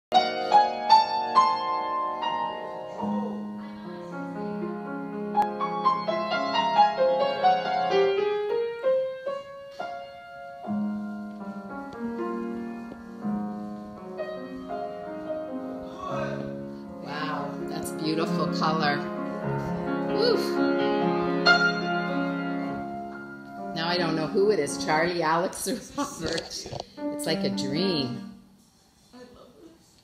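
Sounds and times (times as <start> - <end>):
grand piano playing: 0.1 - 28.6.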